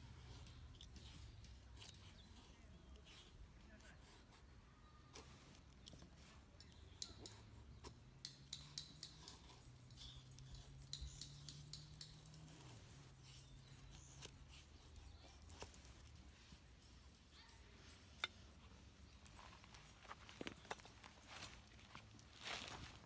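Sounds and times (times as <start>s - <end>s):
snips and scrapes of tinder: 0.0s - 23.0s.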